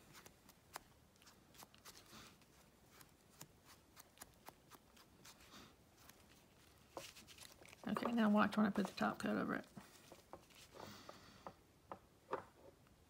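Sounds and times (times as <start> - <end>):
faint ticks and light rubbing: 0.0 - 11.6.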